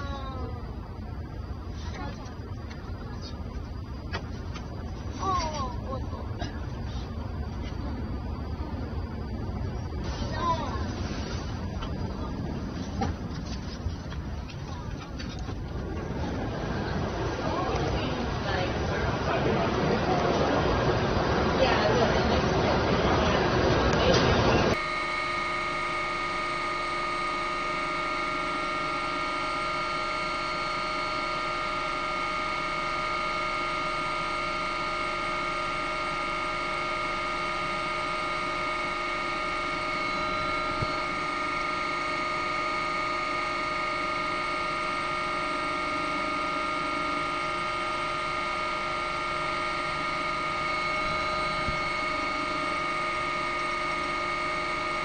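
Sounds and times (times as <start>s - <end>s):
helicopter cabin turbine whine: 0.0s - 55.0s.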